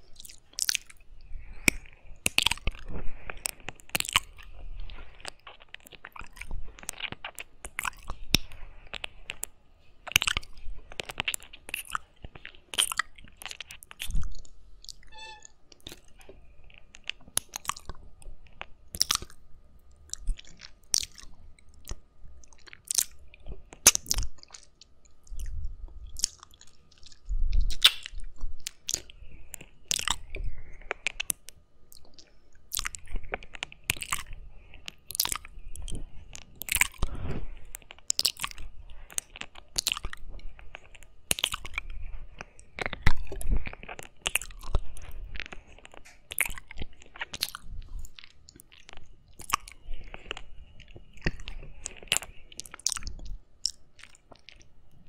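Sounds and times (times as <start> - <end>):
wet mouth clicks and smacks: 0.2 - 15.1, 16.9 - 37.1, 37.8 - 54.7.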